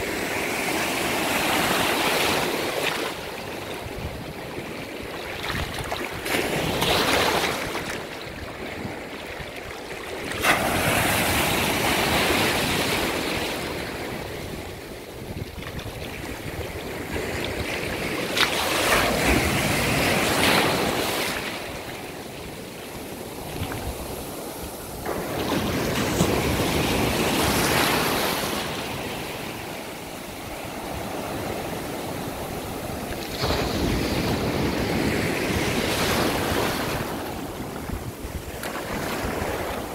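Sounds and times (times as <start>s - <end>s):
small waves washing on sand: 0.0s - 39.9s
wave splash: 0.0s - 39.9s.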